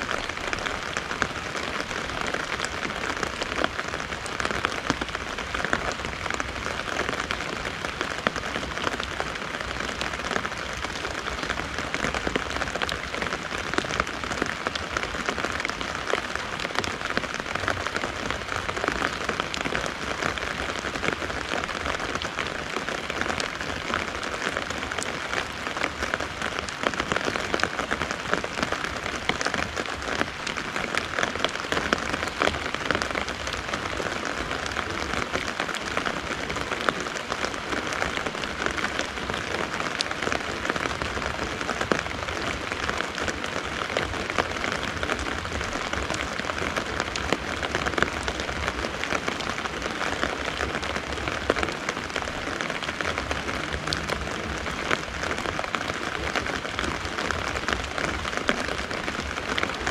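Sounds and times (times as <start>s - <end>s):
rain pattering on umbrella: 0.0s - 59.9s.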